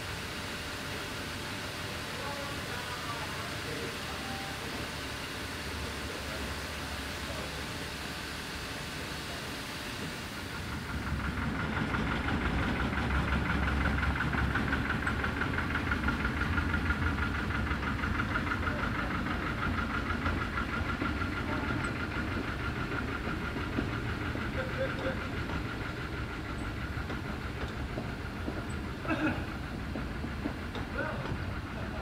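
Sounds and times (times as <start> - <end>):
diesel locomotive engine running: 0.0 - 32.0.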